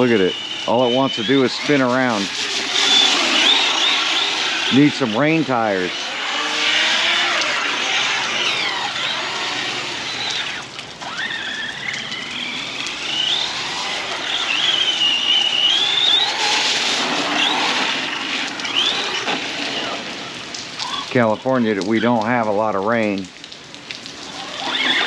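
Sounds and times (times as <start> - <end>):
electric motor whining: 0.0 - 21.4, 24.3 - 25.0
rain and wet tyres hissing: 0.0 - 25.0.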